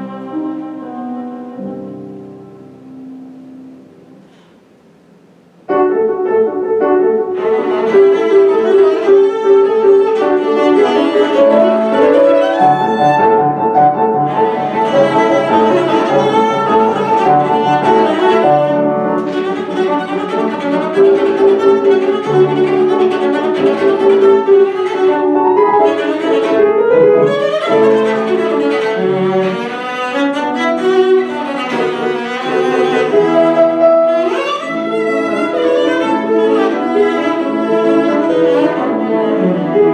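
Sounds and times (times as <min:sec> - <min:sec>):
violin playing melody: 0:00.0 - 0:02.1, 0:05.8 - 0:39.9
piano accompaniment: 0:00.0 - 0:39.9.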